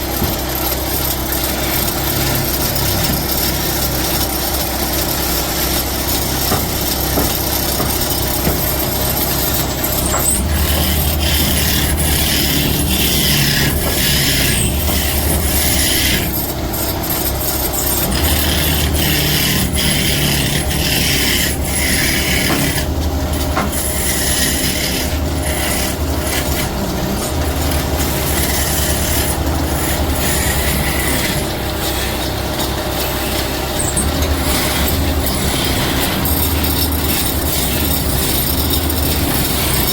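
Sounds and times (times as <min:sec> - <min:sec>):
tool scraping and cutting wood: 0:00.0 - 0:39.9
woodworking machine humming: 0:00.0 - 0:39.9.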